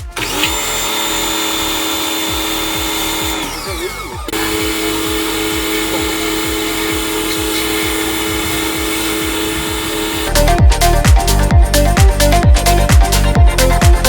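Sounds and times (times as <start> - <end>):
loud whirring tone winding down: 0.0 - 11.5
background music with steady beat: 0.0 - 14.0.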